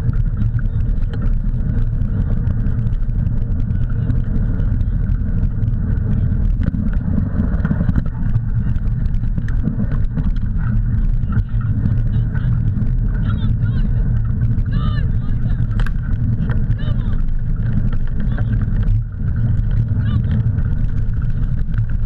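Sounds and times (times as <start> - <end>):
gravel clicks and rattles: 0.0 - 22.0
wheels rumbling on dirt track: 0.0 - 22.0
wind buffeting camera: 0.0 - 22.0.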